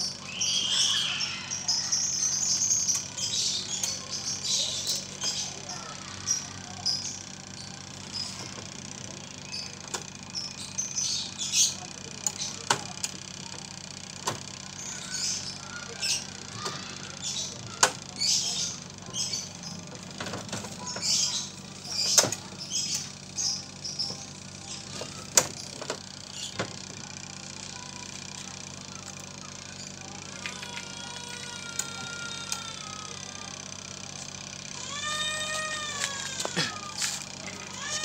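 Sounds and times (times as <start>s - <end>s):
small birds chirping: 0.0s - 13.6s, 14.6s - 38.0s.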